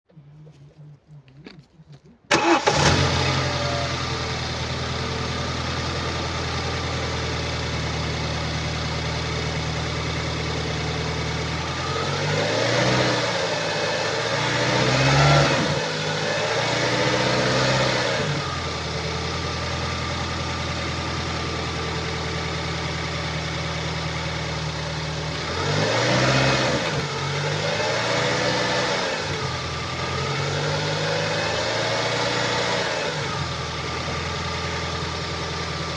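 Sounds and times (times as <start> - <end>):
car engine idling and revving: 2.3 - 35.9
car engine starting: 2.3 - 35.9.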